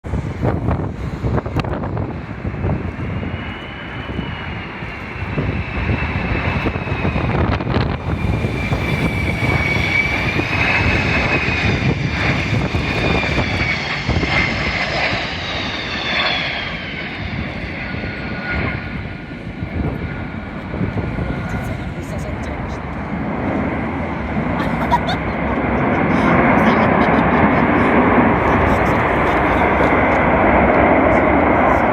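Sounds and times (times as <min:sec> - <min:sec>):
jet engines rumbling and whining: 0:00.0 - 0:31.9
wind buffeting microphone: 0:00.0 - 0:31.9.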